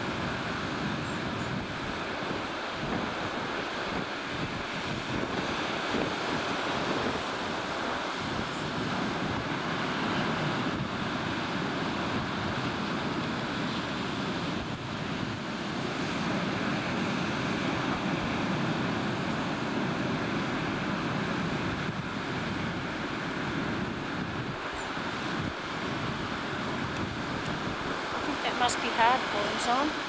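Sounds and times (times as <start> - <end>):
waves breaking: 0.0 - 30.0
wind buffeting microphone: 0.0 - 30.0.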